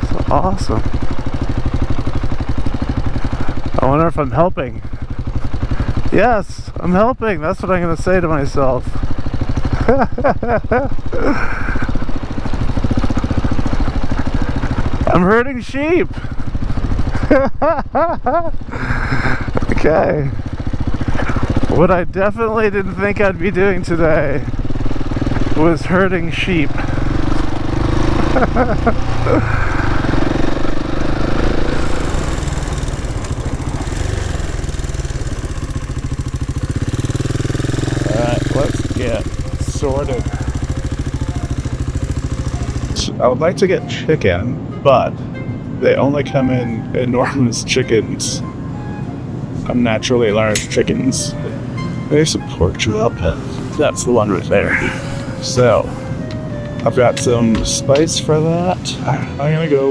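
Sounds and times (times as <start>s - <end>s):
motorcycle engine running: 0.0s - 59.8s.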